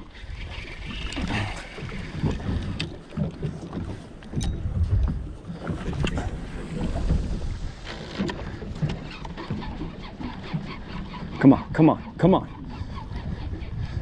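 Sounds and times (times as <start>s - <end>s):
water sloshing against hull: 0.0s - 14.0s
wind buffeting microphone: 0.0s - 14.0s.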